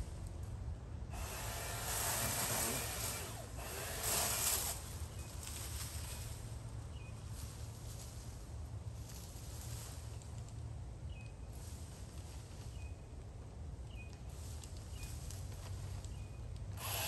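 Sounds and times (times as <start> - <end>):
dry brush and leaves rustling: 2.1 - 17.0.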